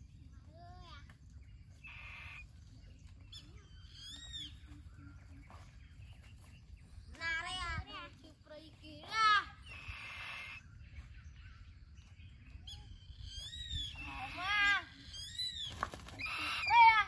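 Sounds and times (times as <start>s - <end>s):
faint bird calls: 0.0s - 8.0s, 8.8s - 17.0s.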